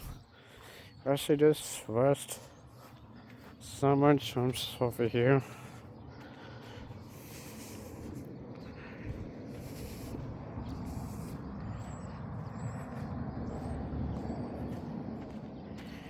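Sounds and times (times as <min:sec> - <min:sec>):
low outdoor rumble: 0:00.0 - 0:00.8, 0:02.1 - 0:16.0.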